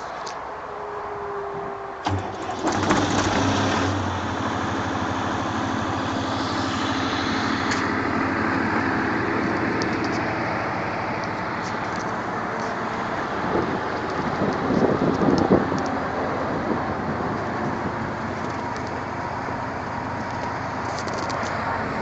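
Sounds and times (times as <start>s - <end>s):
diesel generator starting and running: 0.0s - 22.0s.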